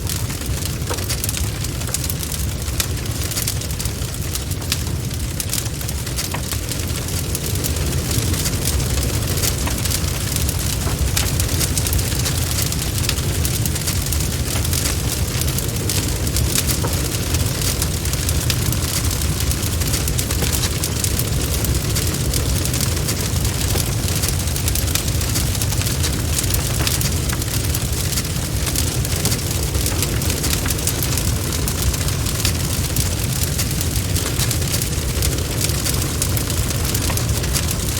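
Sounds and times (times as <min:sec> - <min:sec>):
campfire flames rumbling: 0:00.0 - 0:37.9
fire crackles and pops: 0:00.0 - 0:37.9.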